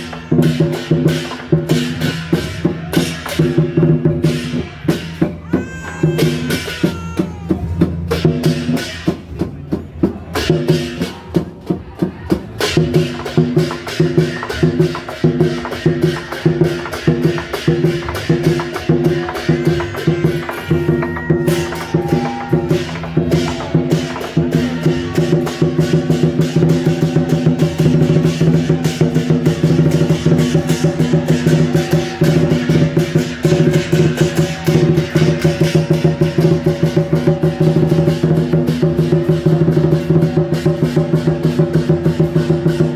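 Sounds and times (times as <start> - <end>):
drums and cymbals beat: 0.0 - 42.9.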